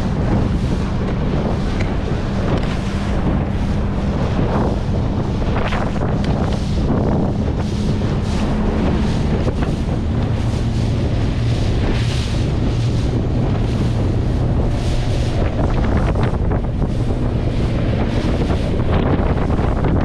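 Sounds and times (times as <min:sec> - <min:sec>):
hull slapping on water: 0:00.0 - 0:20.0
outboard motor running: 0:00.0 - 0:20.0
wind buffeting microphone: 0:00.0 - 0:20.0.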